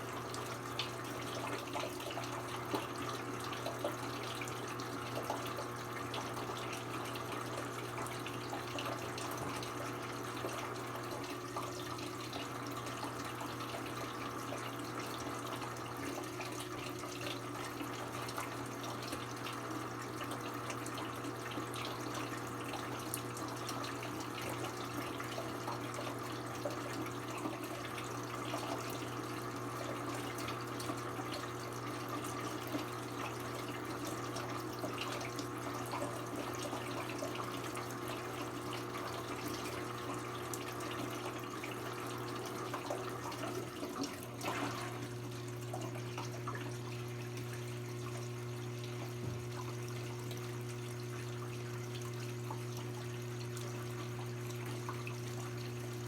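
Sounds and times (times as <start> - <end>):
water running in washing machine: 0.0 - 56.0.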